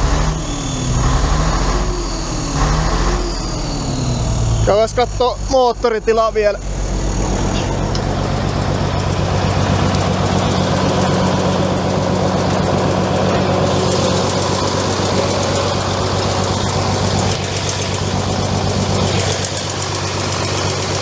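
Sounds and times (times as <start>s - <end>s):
truck diesel engine idling: 0.0s - 21.0s.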